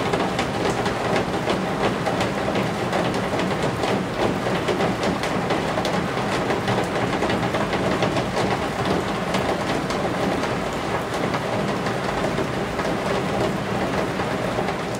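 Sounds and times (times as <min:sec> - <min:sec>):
rain beating on roof eaves: 0:00.0 - 0:14.9.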